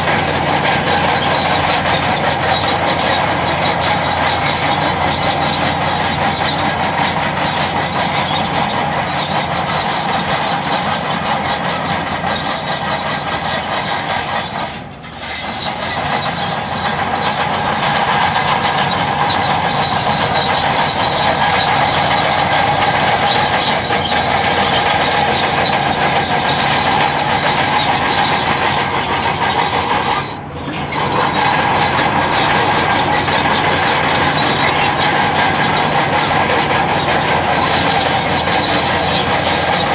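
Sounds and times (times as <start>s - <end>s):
bulldozer diesel engine: 0.0s - 39.9s
track and machinery noise: 0.0s - 39.9s.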